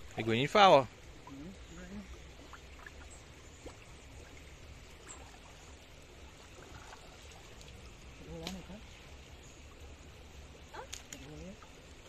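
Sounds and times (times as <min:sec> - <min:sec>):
shallow river water flowing: 0:00.0 - 0:12.0
small splashes and ticks: 0:00.0 - 0:12.0.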